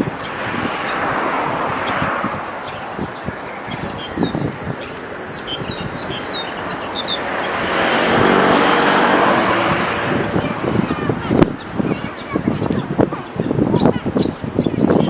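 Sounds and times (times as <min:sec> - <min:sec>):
high bird chirps: 0:00.0 - 0:08.0, 0:10.3 - 0:15.0
vehicle passing: 0:00.0 - 0:14.2.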